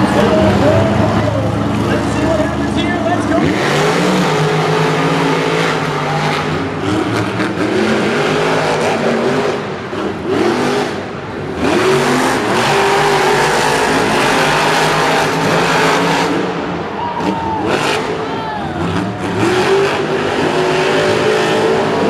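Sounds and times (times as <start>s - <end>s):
truck engines revving hard: 0.0s - 22.0s.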